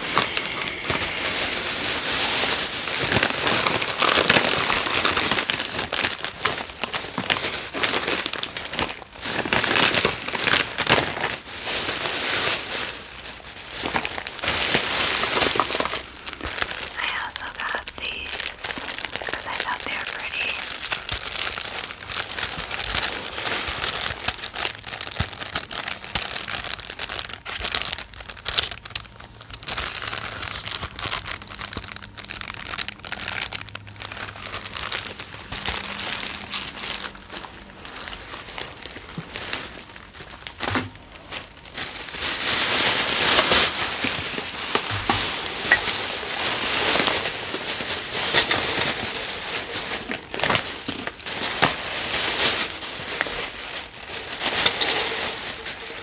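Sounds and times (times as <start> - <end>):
plastic crinkling: 0.0 - 56.0.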